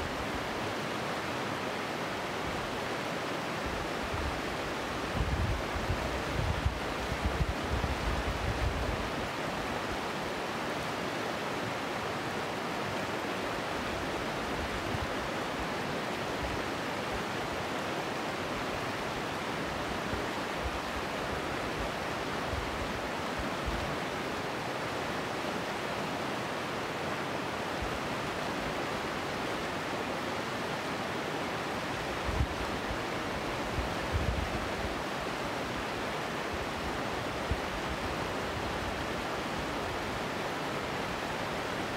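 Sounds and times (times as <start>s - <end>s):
river rushing over rocks: 0.0s - 41.9s.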